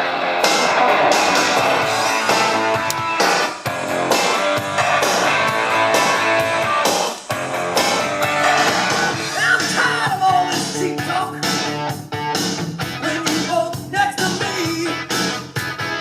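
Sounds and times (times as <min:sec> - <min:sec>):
rock and roll music with guitar: 0:00.0 - 0:16.0.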